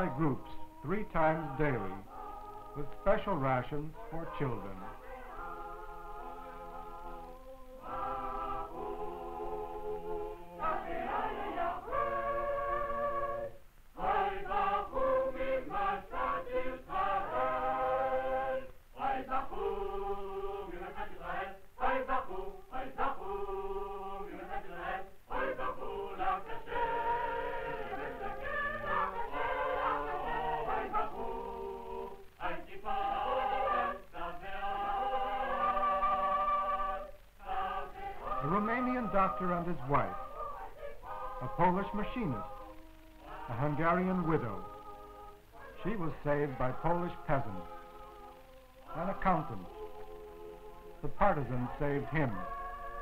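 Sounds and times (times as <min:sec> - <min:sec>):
choir singing held notes: 0:00.0 - 0:53.0.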